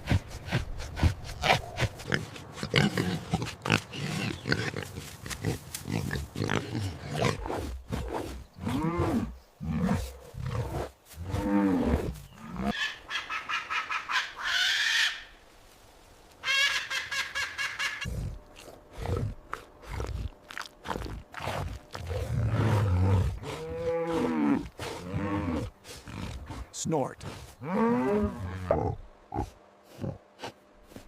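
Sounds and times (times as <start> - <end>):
animal grunting and snorting: 0.0 - 12.9, 17.9 - 31.0.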